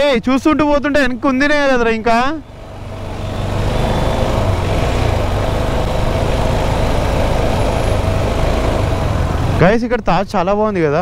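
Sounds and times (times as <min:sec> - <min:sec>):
road and wind rush: 0:00.0 - 0:11.0
motorcycle engine hum: 0:00.5 - 0:10.2.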